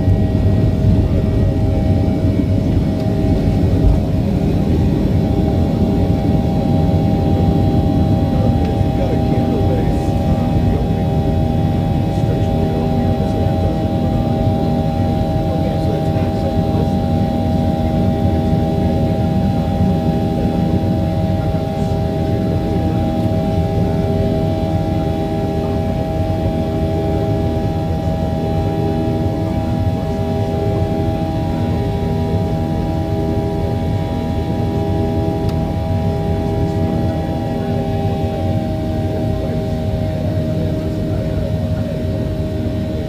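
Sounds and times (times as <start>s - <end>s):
jet engine rumble in cabin: 0.0s - 43.0s.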